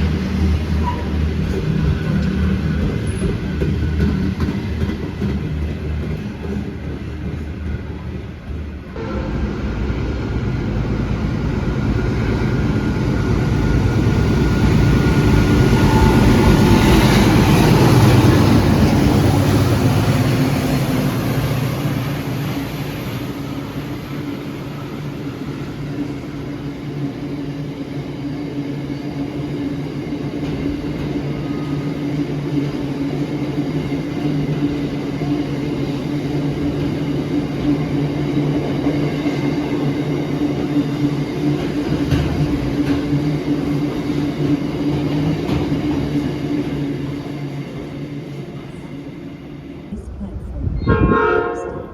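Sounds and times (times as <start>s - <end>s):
diesel locomotives passing: 0.0s - 51.9s.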